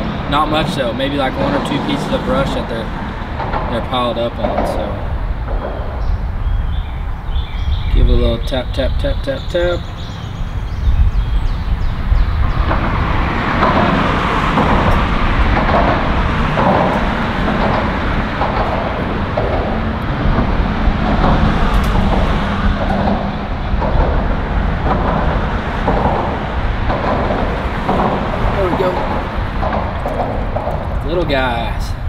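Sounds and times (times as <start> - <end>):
traffic rumbling over bridge: 0.0 - 32.0.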